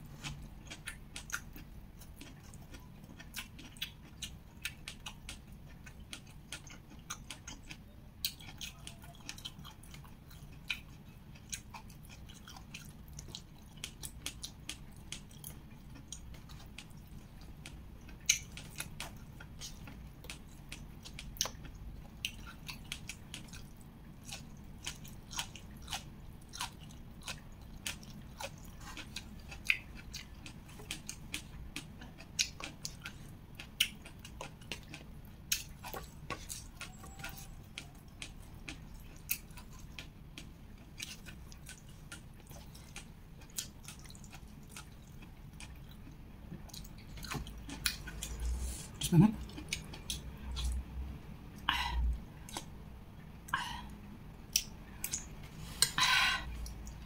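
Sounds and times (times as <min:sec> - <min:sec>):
person chewing food: 0:00.0 - 0:50.8, 0:51.5 - 0:57.0.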